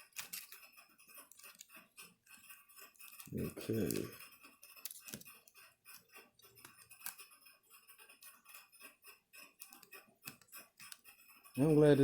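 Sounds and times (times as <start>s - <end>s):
hand tools clicking and scraping: 0.0s - 12.0s.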